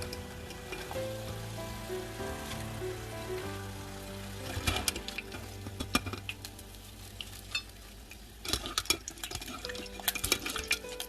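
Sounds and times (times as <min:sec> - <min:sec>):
fries crackling in hot oil: 0:00.0 - 0:11.0
utensil stirring in pan: 0:00.0 - 0:11.0.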